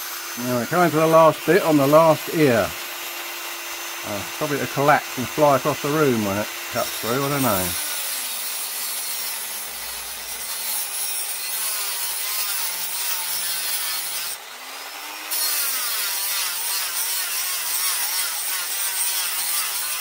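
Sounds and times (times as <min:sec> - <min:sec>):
blade grating through metal: 0:00.0 - 0:20.0.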